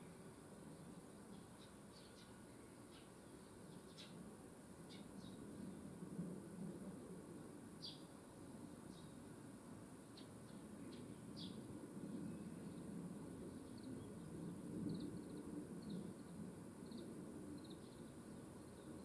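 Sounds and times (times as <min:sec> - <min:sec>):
small birds chirping: 0:00.0 - 0:05.8, 0:07.8 - 0:08.2, 0:08.9 - 0:09.3, 0:10.0 - 0:19.0
faint low background noise: 0:00.0 - 0:19.0.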